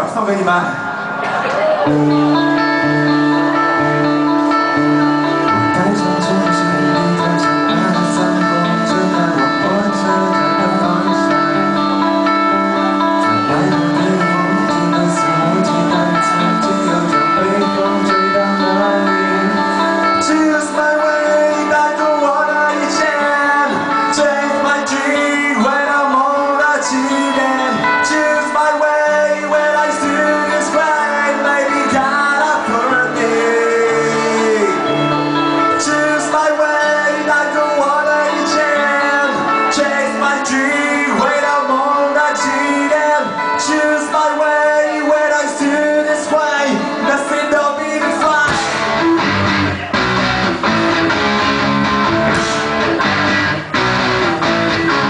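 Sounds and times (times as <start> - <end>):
live band playing chords: 0.0 - 55.0
person singing: 1.6 - 50.1.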